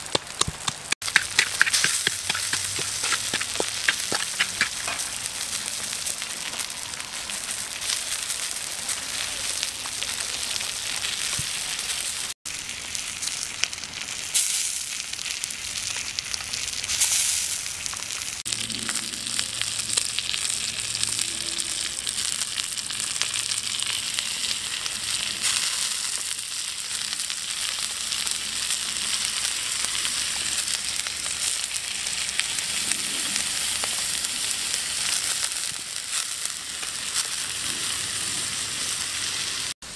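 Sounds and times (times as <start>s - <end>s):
fish roe sizzling on hot rock: 0.0s - 39.9s.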